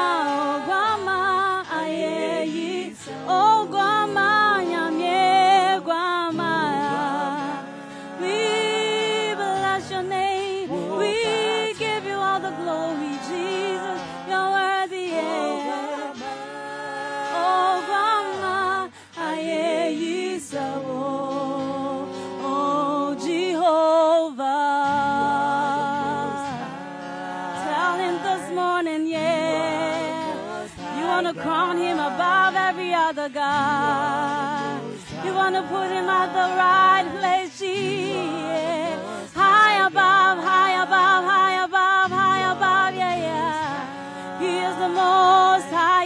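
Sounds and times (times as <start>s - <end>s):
woman singing gospel: 0.0s - 46.0s.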